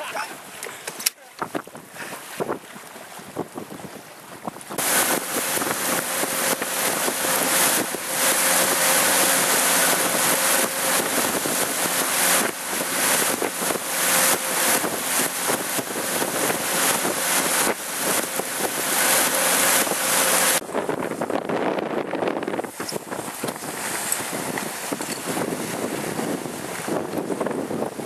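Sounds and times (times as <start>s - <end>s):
rushing water and wake: 0.0s - 28.0s
wind buffeting microphone: 1.3s - 28.0s
motorboat engine drone: 4.2s - 28.0s.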